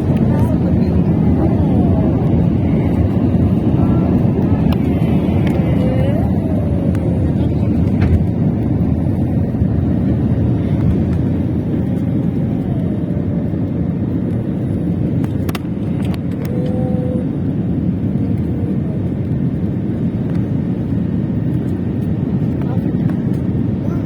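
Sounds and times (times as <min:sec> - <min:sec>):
airplane taking off: 0:00.0 - 0:24.0.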